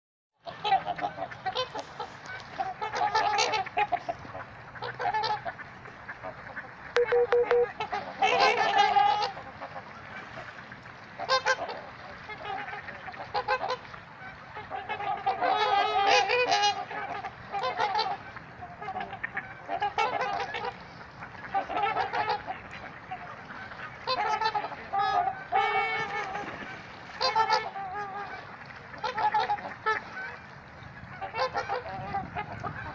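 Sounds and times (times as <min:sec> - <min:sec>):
swans honking: 0:00.4 - 0:32.9.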